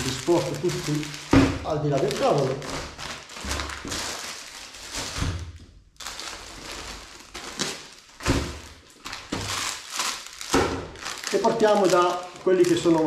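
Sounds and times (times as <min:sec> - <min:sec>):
plastic bags rustling: 0:00.0 - 0:13.0
packages thumping on table: 0:00.3 - 0:05.7, 0:06.3 - 0:12.0.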